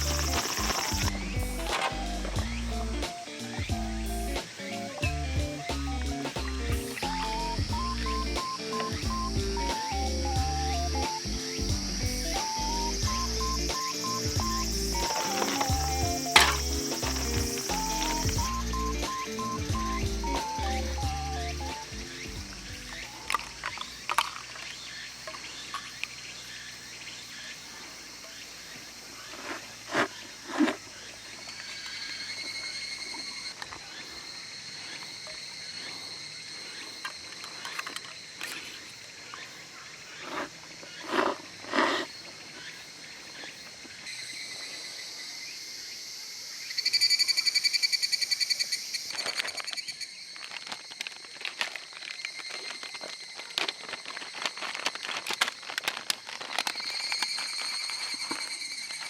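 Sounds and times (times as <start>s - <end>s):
cicadas calling: 0.0s - 59.0s
faint insect chorus: 0.0s - 59.0s.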